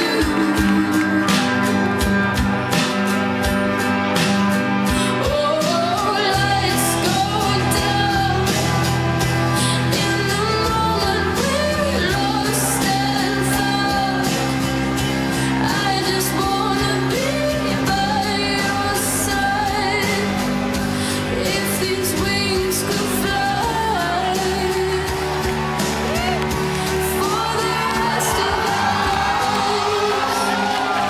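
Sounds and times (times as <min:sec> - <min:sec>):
pop song with singing: 0:00.0 - 0:31.0.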